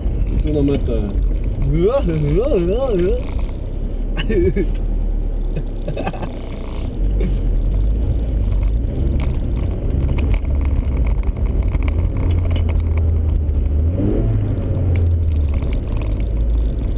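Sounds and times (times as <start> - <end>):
car engine running hard: 0.0 - 16.9.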